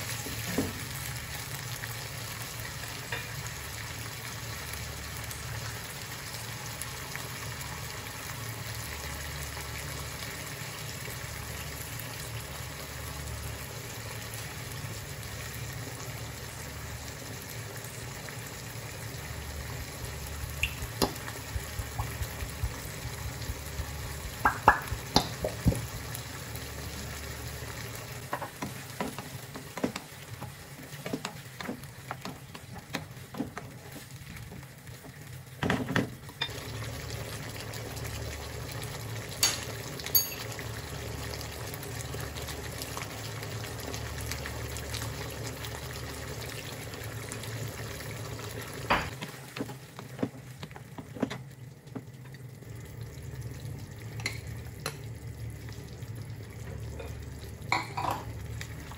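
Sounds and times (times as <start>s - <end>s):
food sizzling in a wok: 0.0s - 51.0s.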